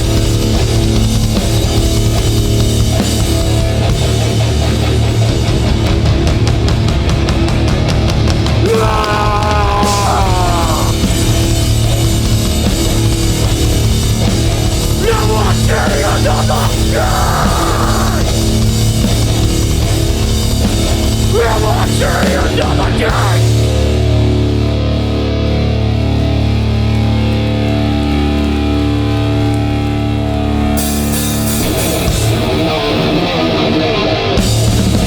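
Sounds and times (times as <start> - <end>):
bass guitar: 0.0 - 35.0
distorted electric guitars: 0.0 - 35.0
drums: 0.0 - 35.0.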